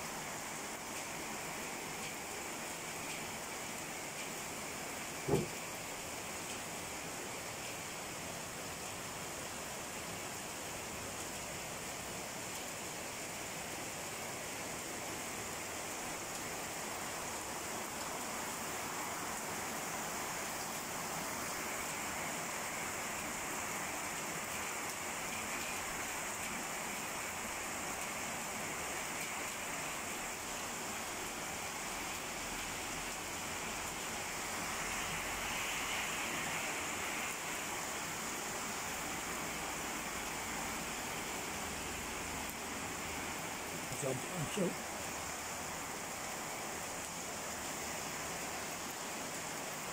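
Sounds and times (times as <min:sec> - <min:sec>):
heavy rain on streets and rooftops: 0:00.0 - 0:49.9.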